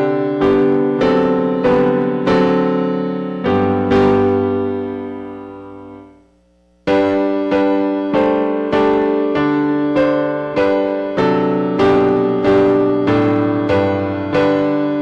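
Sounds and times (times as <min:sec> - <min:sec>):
piano playing hymn chords: 0:00.0 - 0:15.0.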